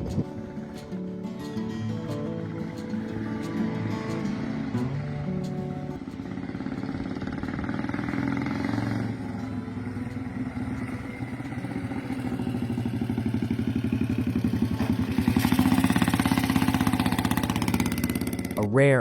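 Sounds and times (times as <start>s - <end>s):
scooter engine running: 0.0s - 18.6s.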